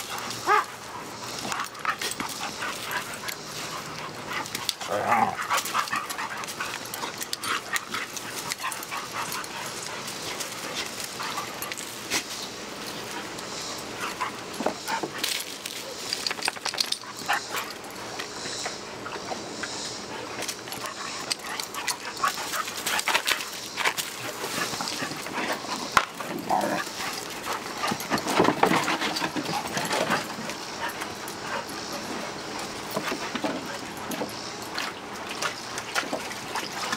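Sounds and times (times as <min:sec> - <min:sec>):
puppies play-fighting: 0:00.0 - 0:36.9.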